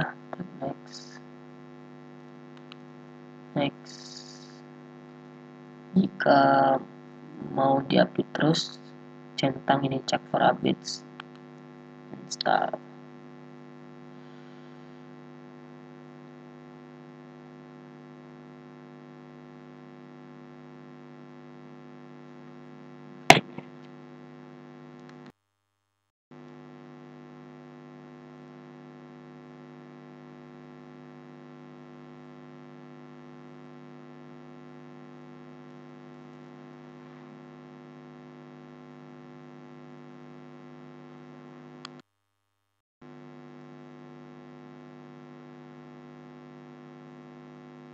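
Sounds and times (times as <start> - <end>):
electrical mains hum: 0.0 - 25.3, 26.4 - 42.0.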